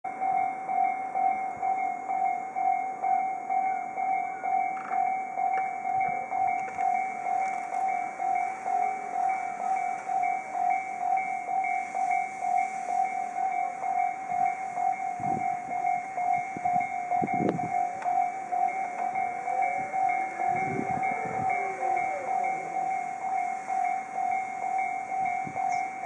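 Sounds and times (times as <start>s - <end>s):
railroad crossing bell dinging: 0.1s - 26.0s.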